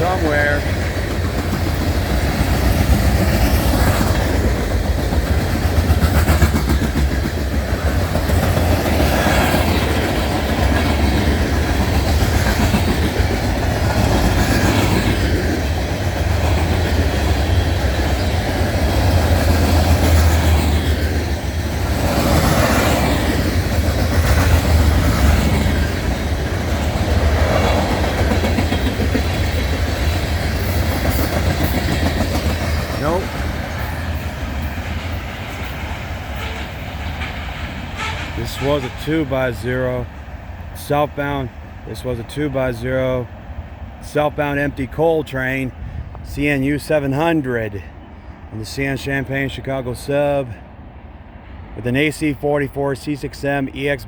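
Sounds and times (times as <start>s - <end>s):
freight train rolling past: 0.0s - 54.0s
wheels clacking on rails: 0.0s - 54.0s.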